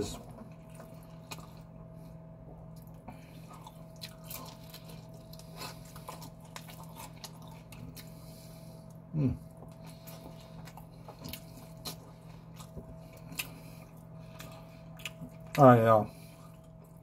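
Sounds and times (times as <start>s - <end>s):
faint steady hum: 0.0s - 17.0s
person chewing food: 0.1s - 17.0s.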